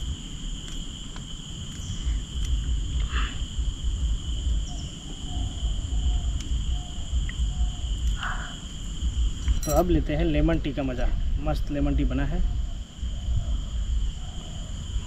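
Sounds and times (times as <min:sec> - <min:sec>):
insects chirring: 0:00.0 - 0:15.0
wind rumble on microphone: 0:00.0 - 0:15.0.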